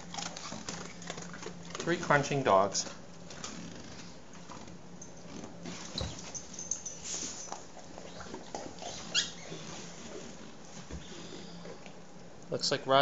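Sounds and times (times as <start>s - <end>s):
dogs chewing biscuits: 0.0s - 12.2s.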